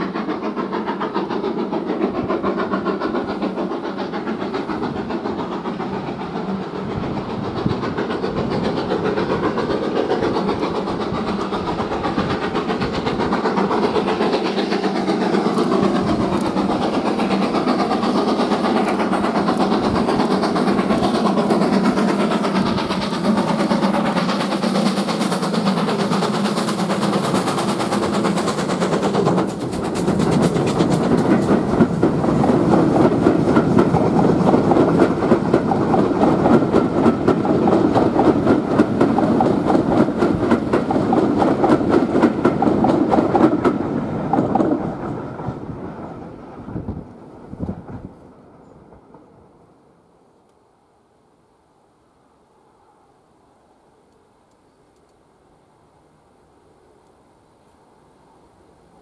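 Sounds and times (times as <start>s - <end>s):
steam locomotive exhaust beating: 0.0s - 49.4s
train wheels clickety-clack: 0.0s - 49.8s.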